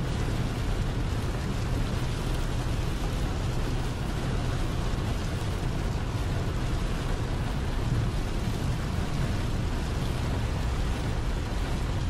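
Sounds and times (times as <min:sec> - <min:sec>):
rain drumming on truck cab: 0:00.0 - 0:12.0
truck engine and road rumble: 0:00.0 - 0:12.0.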